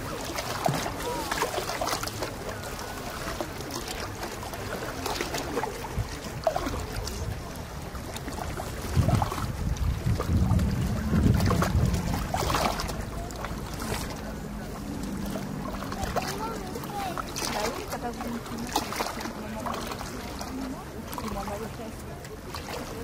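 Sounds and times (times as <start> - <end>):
background wash: 0.0 - 23.0
boat motor droning: 0.0 - 23.0.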